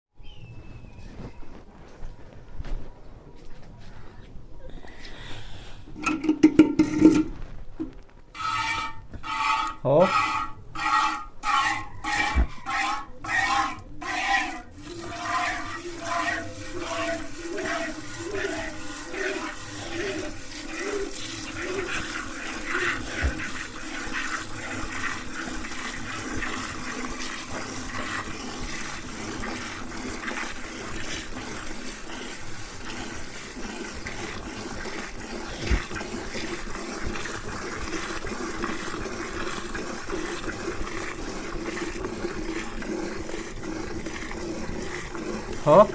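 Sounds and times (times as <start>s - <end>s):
milk squirting into a pail: 5.9s - 45.9s.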